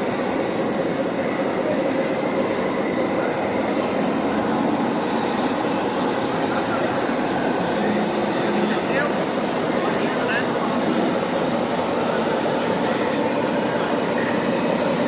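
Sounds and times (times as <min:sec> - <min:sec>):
toy truck motor rumbling: 0:00.0 - 0:15.0.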